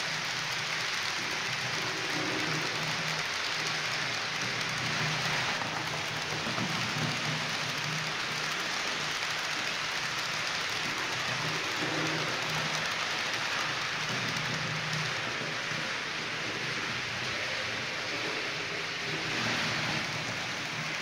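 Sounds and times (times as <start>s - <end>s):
model train wheels rattling: 0.0s - 21.0s.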